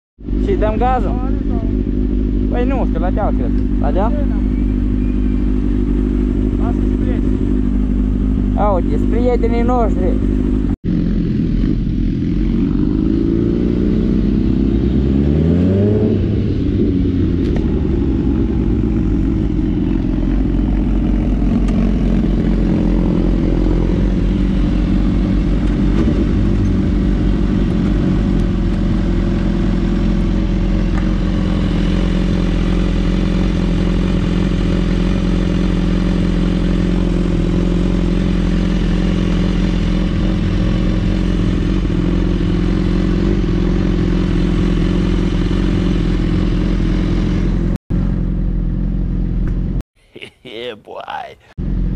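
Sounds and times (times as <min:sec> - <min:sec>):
motorcycle engine accelerating: 0:00.2 - 0:49.8, 0:51.6 - 0:51.9.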